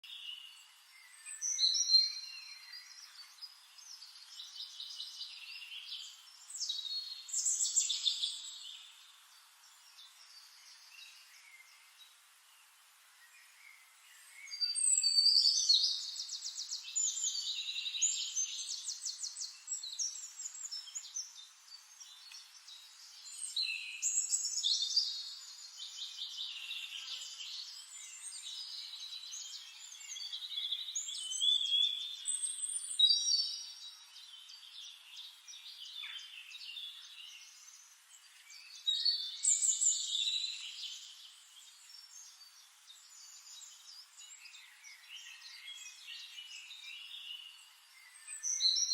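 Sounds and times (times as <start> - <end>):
songbirds trilling and warbling: 0.0 - 48.9.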